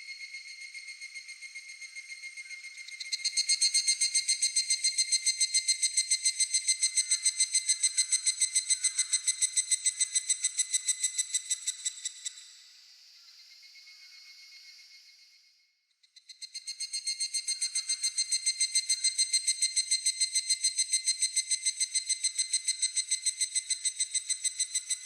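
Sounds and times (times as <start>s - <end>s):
faint pulsing insect call: 0.0s - 25.0s.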